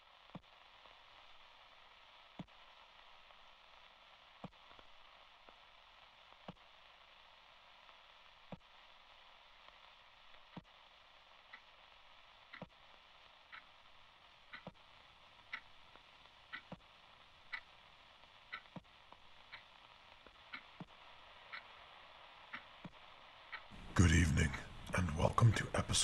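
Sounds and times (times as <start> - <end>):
faint static hiss: 0.0 - 26.0.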